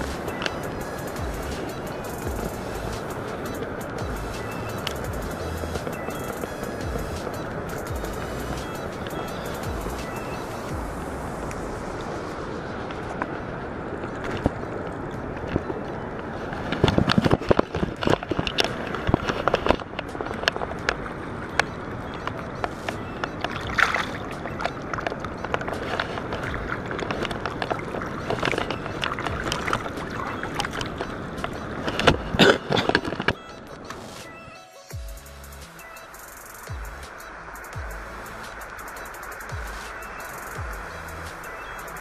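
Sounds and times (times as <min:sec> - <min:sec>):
water splashing and sloshing: 0:00.0 - 0:34.3
rushing water background: 0:00.0 - 0:42.0.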